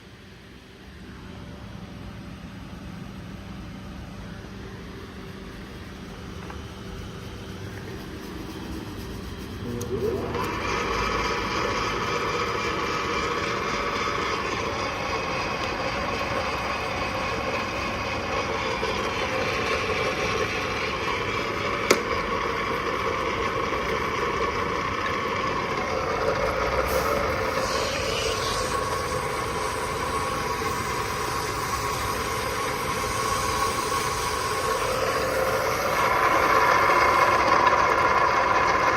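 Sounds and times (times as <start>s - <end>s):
pipe threading machine running: 4.6s - 38.9s.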